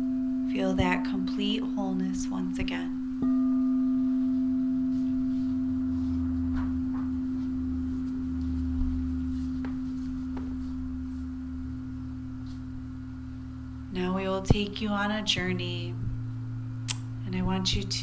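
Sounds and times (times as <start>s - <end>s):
singing bowl ringing: 0.0s - 17.9s.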